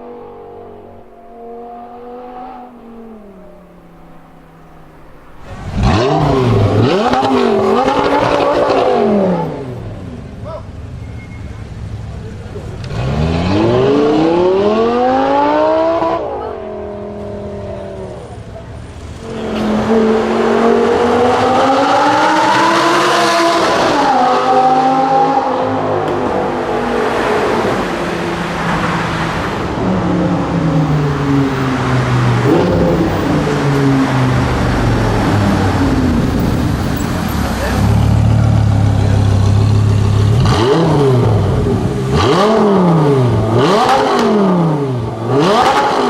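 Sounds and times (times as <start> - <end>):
car engine accelerating hard: 0.0 - 10.6, 11.9 - 46.0.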